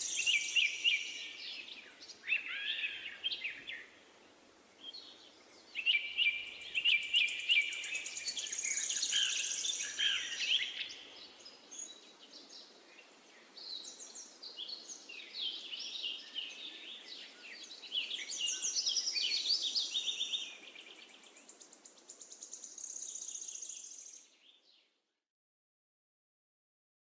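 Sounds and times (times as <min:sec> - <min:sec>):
birds chirping and singing: 0:00.0 - 0:04.0, 0:04.8 - 0:24.7
faint hiss: 0:00.0 - 0:24.6.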